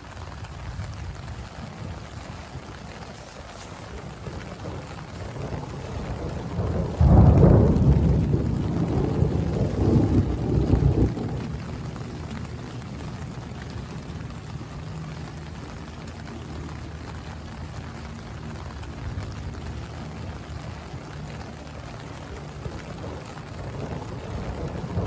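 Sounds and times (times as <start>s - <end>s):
heavy rain on tent fabric: 0.0s - 25.0s
loud low thunder rumble: 3.8s - 16.8s, 17.4s - 25.0s.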